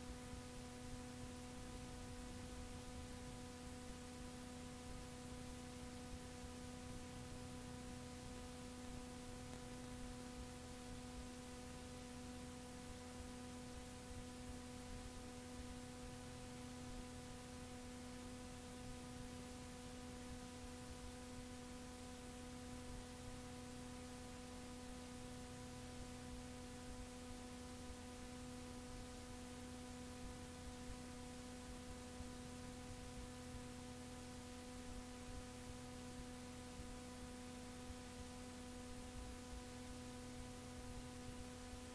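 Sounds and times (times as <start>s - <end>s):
electrical hum: 0.0s - 41.9s
tape hiss: 0.0s - 41.9s.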